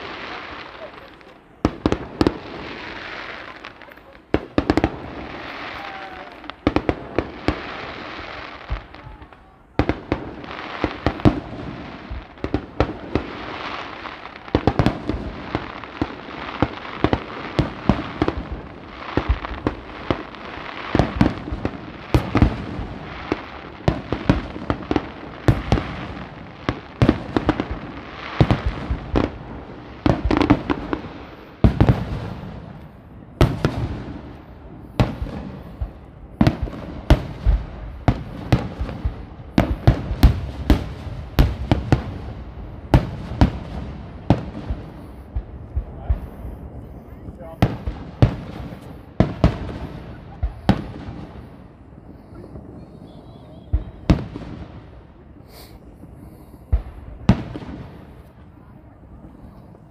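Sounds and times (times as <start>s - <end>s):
fireworks bursting with sharp bangs: 0.0s - 59.9s.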